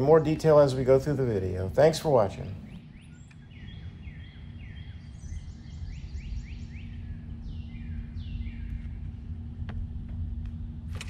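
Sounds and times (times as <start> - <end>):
songbird singing: 0.0 - 10.8
low hum and rumble: 0.0 - 11.0.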